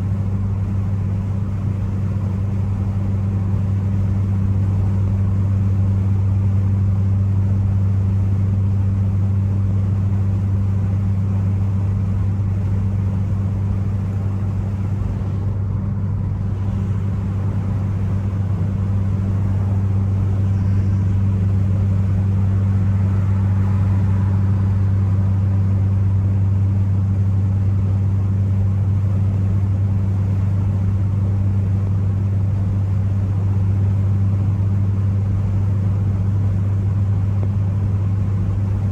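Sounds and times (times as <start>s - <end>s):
car engine and exhaust drone: 0.0s - 38.9s
road noise: 0.0s - 38.9s.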